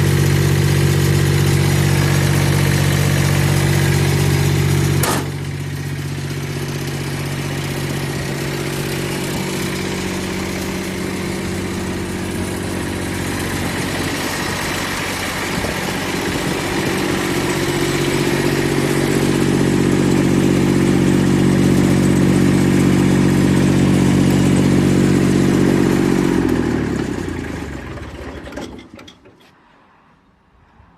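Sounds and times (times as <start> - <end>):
snowblower diesel engine running: 0.0 - 29.5.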